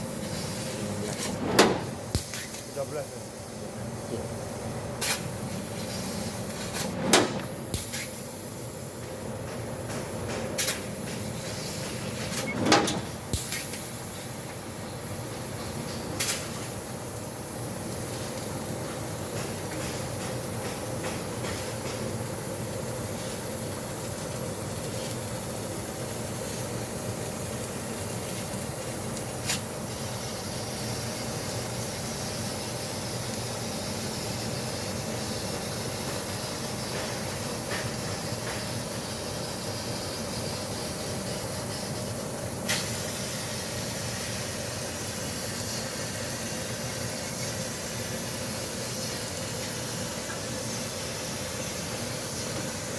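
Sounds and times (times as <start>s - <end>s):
laser cutter hissing and humming: 0.0s - 52.9s.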